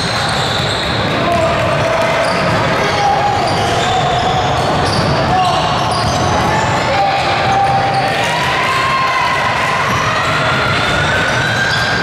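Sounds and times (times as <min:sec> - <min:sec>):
court and crowd noise: 0:00.0 - 0:12.0.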